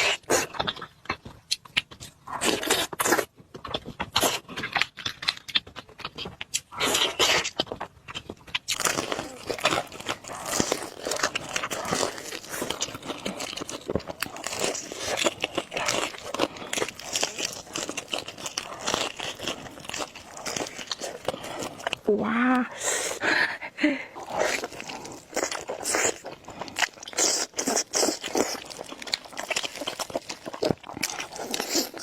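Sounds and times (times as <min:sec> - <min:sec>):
crunching and chewing food: 0:00.0 - 0:32.0.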